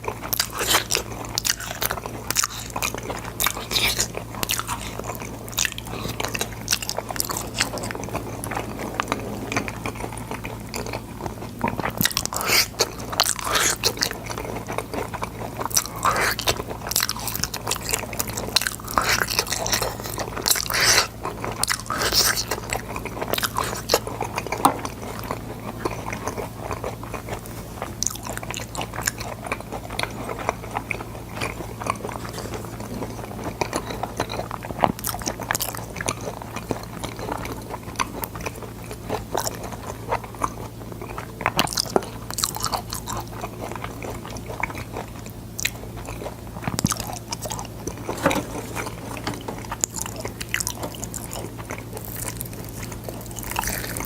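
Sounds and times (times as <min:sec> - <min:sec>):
person crunching and chewing: 0:00.0 - 0:54.0
steady low hum: 0:00.0 - 0:54.0.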